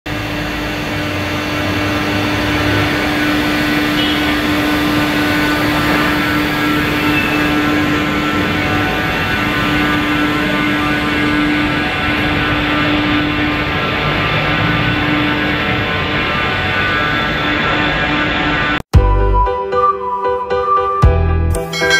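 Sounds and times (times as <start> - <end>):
industrial vacuum cleaner running: 0.1 - 18.8.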